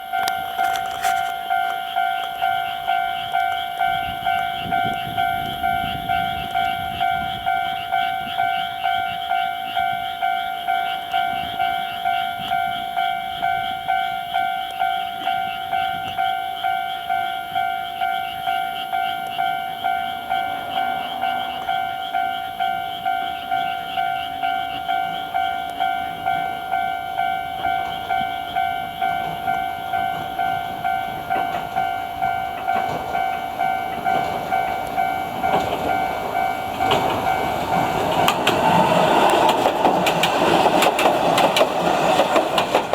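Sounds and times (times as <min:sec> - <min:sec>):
level-crossing warning bell ringing: 0:00.0 - 0:42.9.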